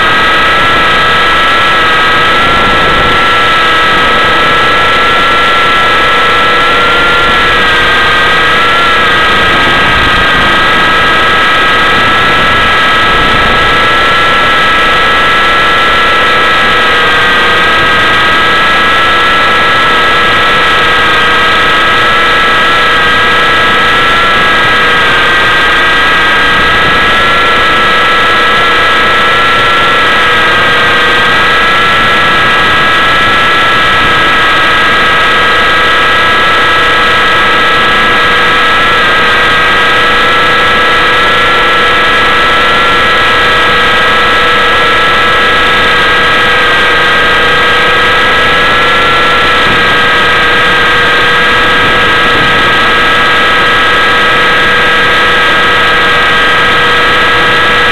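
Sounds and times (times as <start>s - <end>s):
model helicopter rotor whine: 0.0s - 57.9s
noisy rush: 0.0s - 57.9s.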